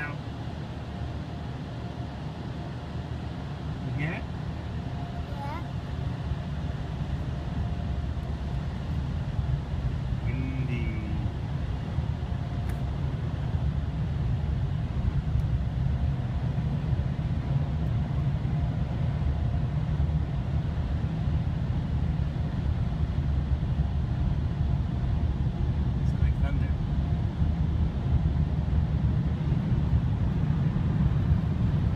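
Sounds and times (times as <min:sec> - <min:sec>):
low rumble inside car: 0:03.6 - 0:31.9.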